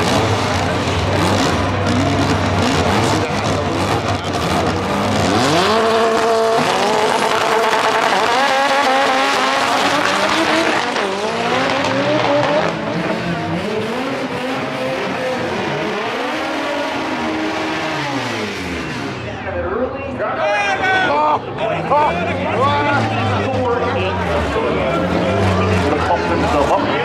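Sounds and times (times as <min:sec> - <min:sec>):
drag racing cars accelerating: 0:00.0 - 0:27.0.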